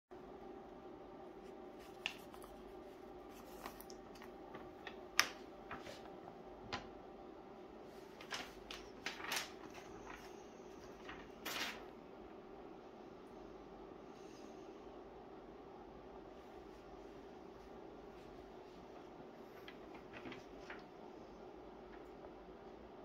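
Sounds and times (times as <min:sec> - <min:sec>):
faint steady hum: 0:00.1 - 0:23.0.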